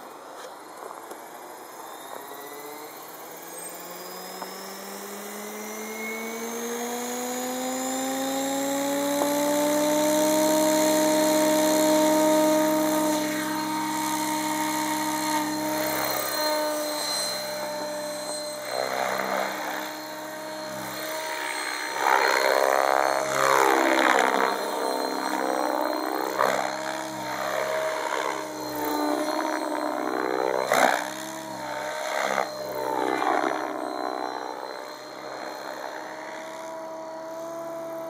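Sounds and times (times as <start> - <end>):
rc helicopter rotor whine: 0.0 - 38.0.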